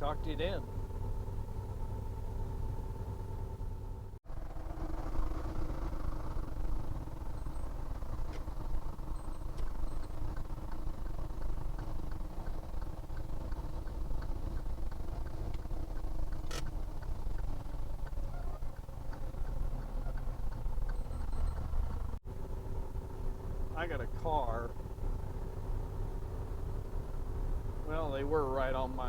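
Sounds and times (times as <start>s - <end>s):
road rumble: 0.0s - 29.0s
vehicle engine running: 0.0s - 29.0s.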